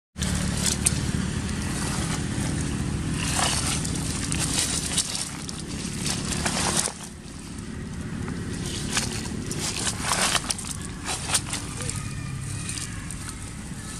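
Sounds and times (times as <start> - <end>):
dry leaves crackling: 0.2 - 13.9
low engine rumble: 0.2 - 13.9.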